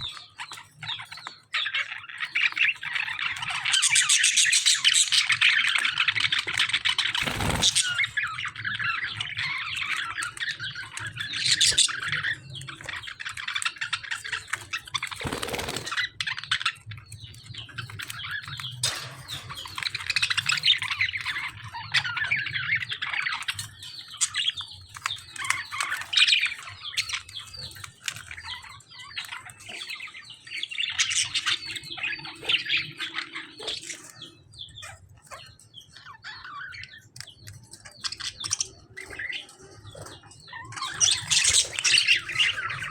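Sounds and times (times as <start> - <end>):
small birds chattering: 0.0 - 42.9.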